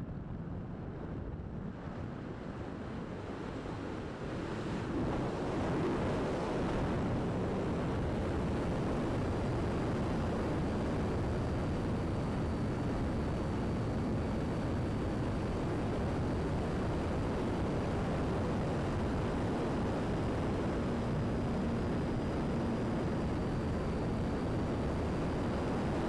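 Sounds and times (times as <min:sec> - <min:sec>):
airflow rushing over microphone: 0:01.5 - 0:26.0.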